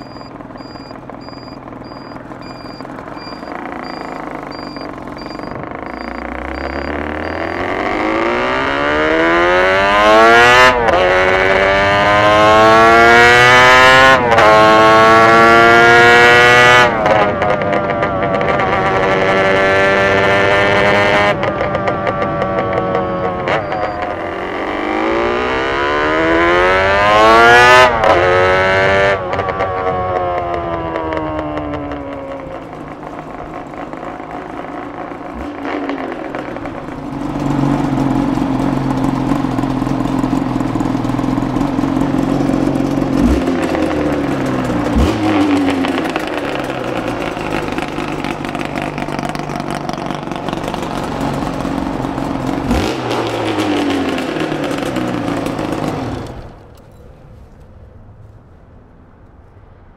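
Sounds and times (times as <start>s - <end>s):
motorcycle engine revving: 0.0s - 57.1s.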